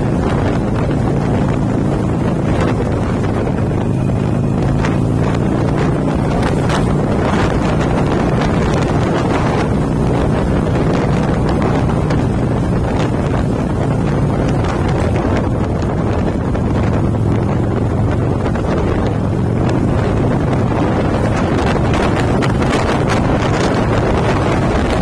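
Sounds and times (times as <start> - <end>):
motorcycle engine drone: 0.0 - 25.0
wind rush on microphone: 0.0 - 25.0.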